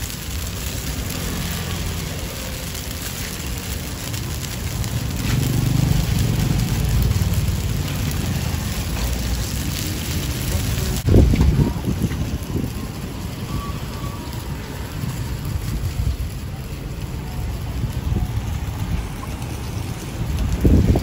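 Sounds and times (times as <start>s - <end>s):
batter sizzling: 0.0s - 21.0s.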